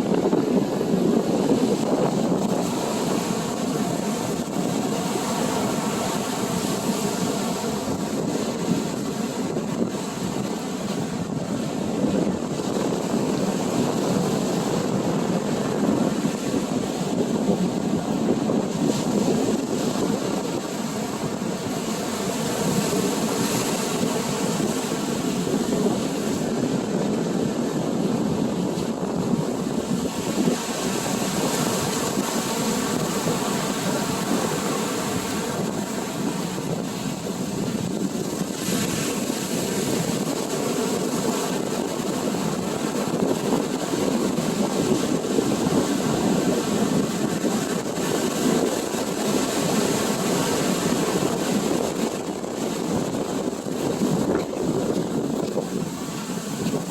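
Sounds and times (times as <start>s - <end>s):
ocean surf breaking: 0.0s - 56.9s
wind on microphone: 0.0s - 56.9s.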